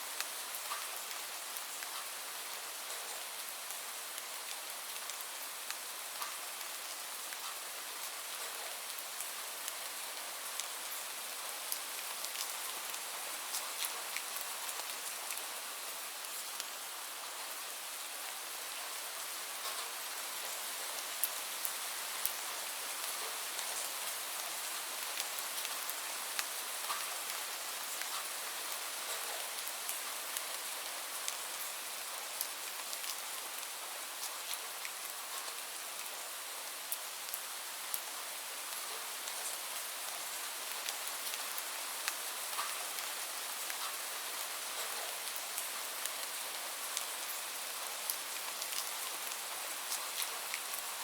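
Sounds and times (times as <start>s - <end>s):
steady rainfall: 0.0s - 51.0s.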